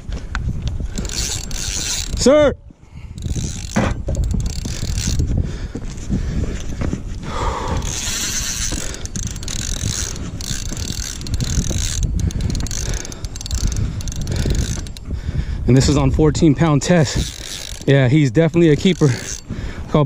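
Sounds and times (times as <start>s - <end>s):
fishing reel whirring and clicking: 0.8s - 5.3s, 6.4s - 19.6s.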